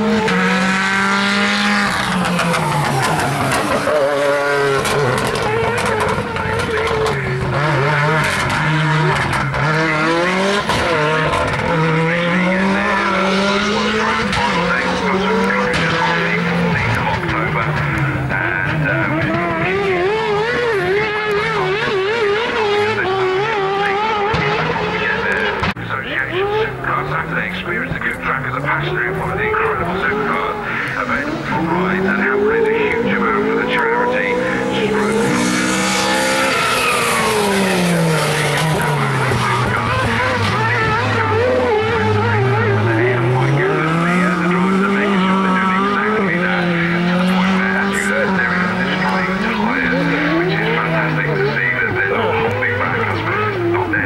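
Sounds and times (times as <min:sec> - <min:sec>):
rally car engine at high revs: 0:00.0 - 0:54.0.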